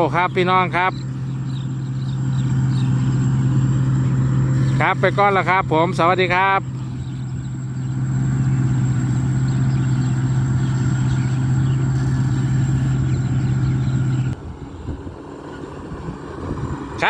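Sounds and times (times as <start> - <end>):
engine running with low hum: 0.0 - 17.0
quieter rough engine noise: 0.0 - 17.0.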